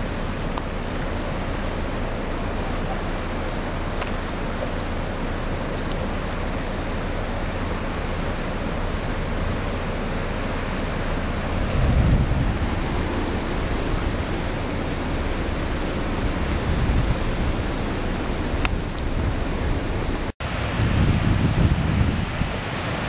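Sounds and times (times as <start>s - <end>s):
floodwater rushing: 0.0s - 23.0s
wind noise on microphone: 0.0s - 23.0s.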